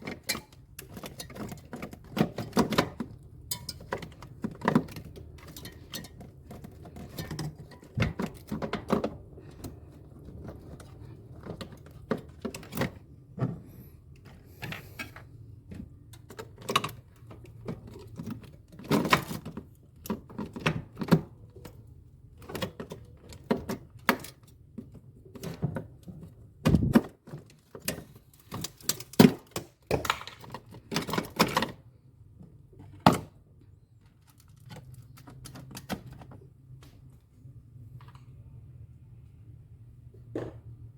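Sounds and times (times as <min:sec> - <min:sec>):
clicks and knocks of handling parts: 0:00.0 - 0:38.5.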